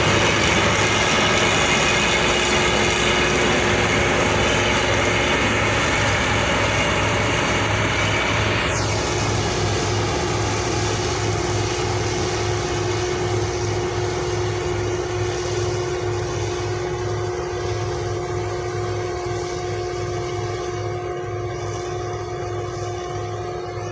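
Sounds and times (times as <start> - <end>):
combine harvester running: 0.0 - 23.9.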